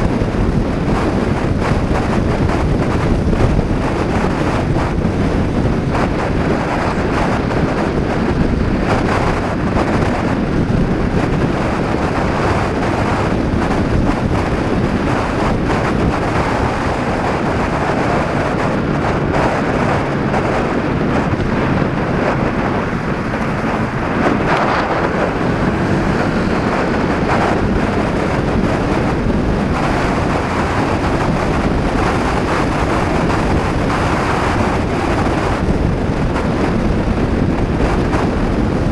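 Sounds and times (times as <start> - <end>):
scooter engine running: 0.0 - 38.9
wind buffeting microphone: 0.0 - 38.9.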